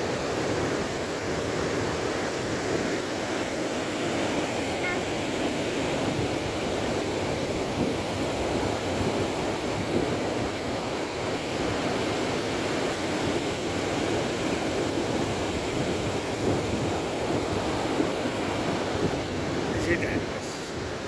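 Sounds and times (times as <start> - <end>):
sea surf breaking: 0.0 - 21.0
wind on microphone: 0.0 - 21.0.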